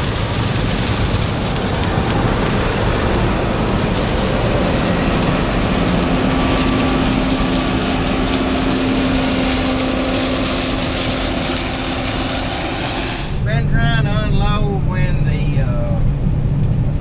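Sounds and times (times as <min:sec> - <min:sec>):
combine harvester running: 0:00.0 - 0:17.0
steady low hum: 0:00.0 - 0:17.0.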